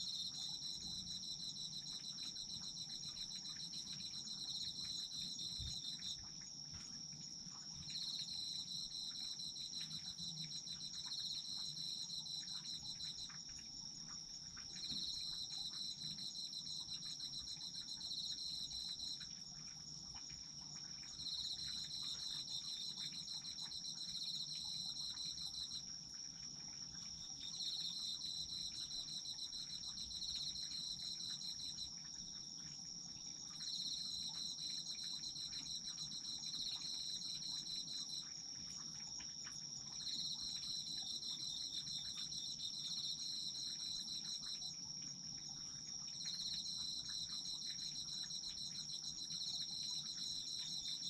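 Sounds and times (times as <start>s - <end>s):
insect continuous high trill: 0.0s - 51.0s
insect lower pulsed trill: 0.0s - 51.0s.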